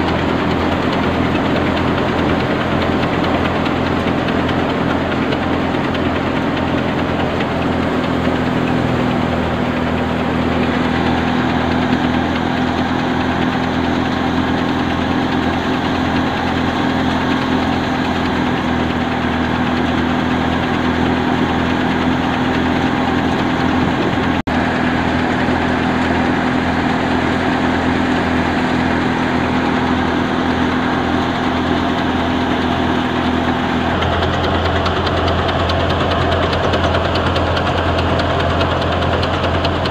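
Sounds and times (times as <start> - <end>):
thresher mechanical drone: 0.0 - 39.9.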